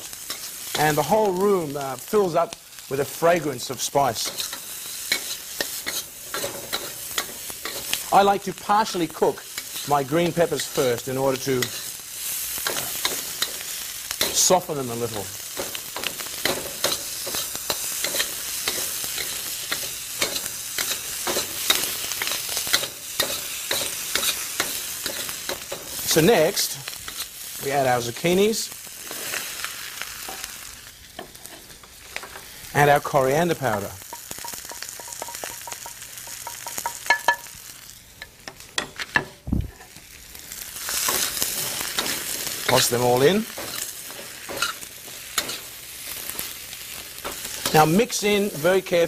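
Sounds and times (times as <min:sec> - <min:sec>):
peppers sizzling in a wok: 0:00.0 - 0:49.0.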